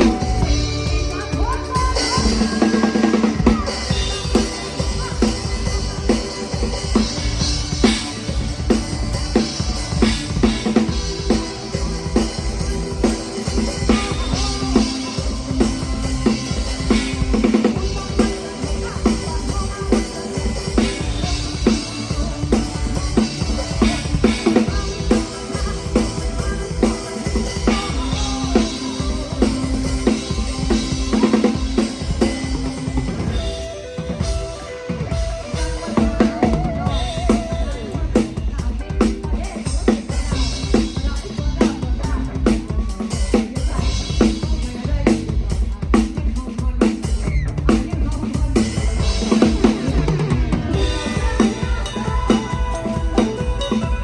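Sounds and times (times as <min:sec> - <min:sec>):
bass and keyboard notes: 0:00.0 - 0:42.9, 0:47.2 - 0:54.0
drum kit beat: 0:00.0 - 0:54.0
live band music: 0:00.0 - 0:54.0.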